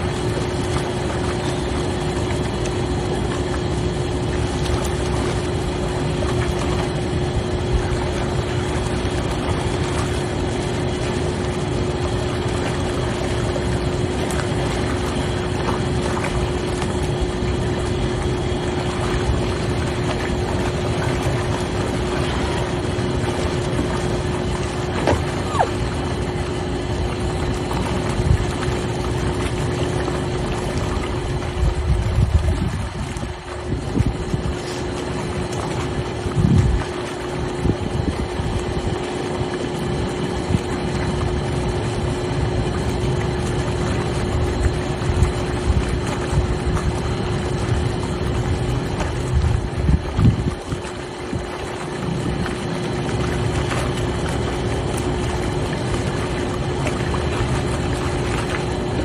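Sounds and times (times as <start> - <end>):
hot tub water churning: 0.0 - 59.0
pump motor hum: 0.0 - 59.0.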